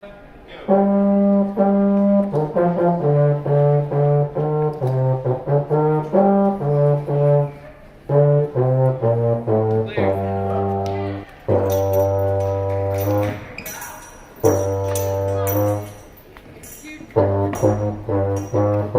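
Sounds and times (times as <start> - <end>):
baritone horn melody: 0.6 - 13.6, 14.4 - 16.2, 17.1 - 18.9.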